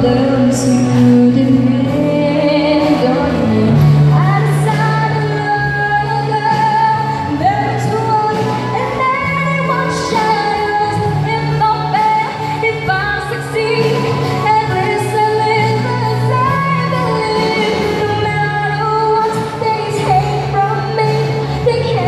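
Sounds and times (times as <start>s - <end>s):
woman singing with vibrato: 0.0s - 22.0s.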